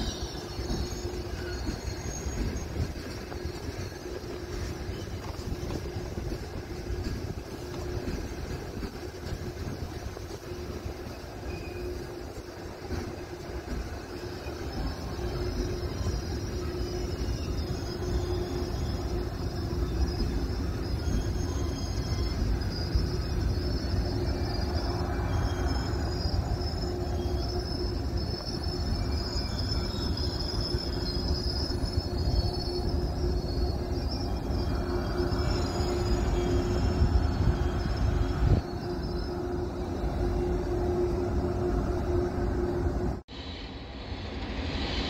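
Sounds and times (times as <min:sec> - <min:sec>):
high-pitched wheel squeal: 0:00.0 - 0:43.2
train rumble and hum: 0:00.0 - 0:45.0.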